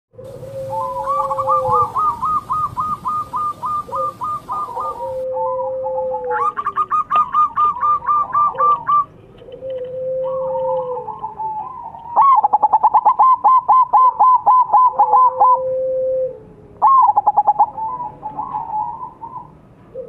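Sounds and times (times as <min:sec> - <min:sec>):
doves cooing: 0:00.2 - 0:20.0.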